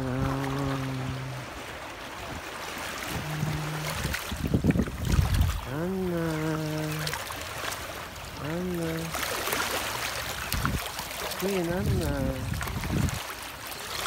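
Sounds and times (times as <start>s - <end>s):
drawn-out low calls: 0.0s - 2.0s, 2.8s - 7.3s, 8.0s - 14.0s
small waves lapping over rocks: 0.0s - 14.0s.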